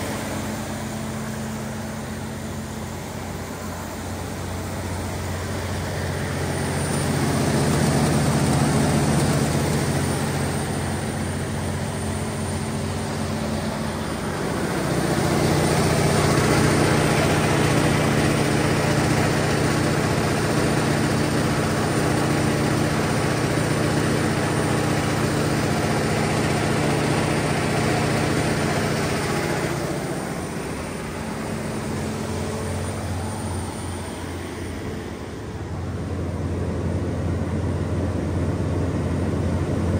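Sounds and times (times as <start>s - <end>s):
diesel generator engine droning: 0.0s - 39.9s.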